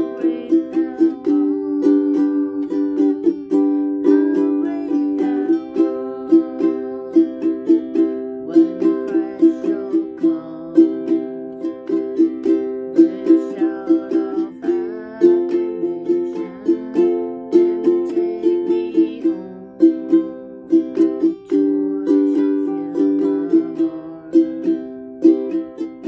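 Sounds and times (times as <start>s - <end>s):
ukulele strumming chords: 0.0s - 26.0s.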